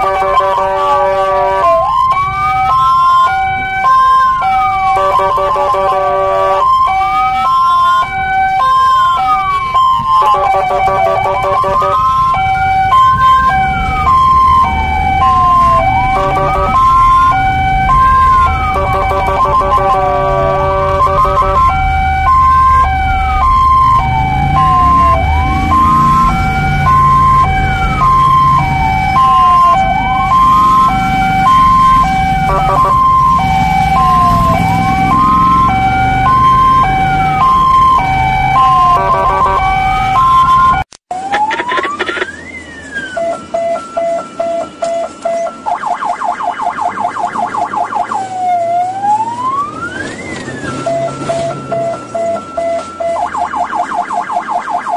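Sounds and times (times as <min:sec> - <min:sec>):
ambulance siren wailing: 0:00.0 - 0:54.9
fast siren yelp: 0:00.0 - 0:54.9
road and engine rumble: 0:00.0 - 0:54.9
two-note hi-lo siren: 0:00.0 - 0:54.9.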